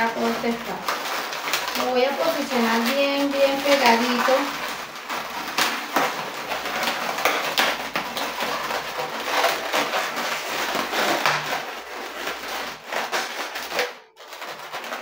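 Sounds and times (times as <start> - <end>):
balloons squeaking and rubbing: 0.0 - 15.0.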